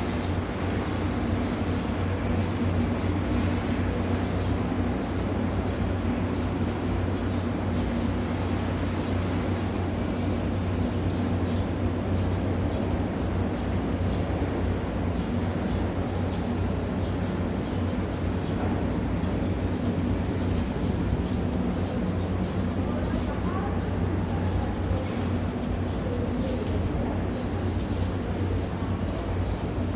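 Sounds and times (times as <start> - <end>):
urban background rumble: 0.0 - 29.9
small birds chirping: 0.3 - 29.9.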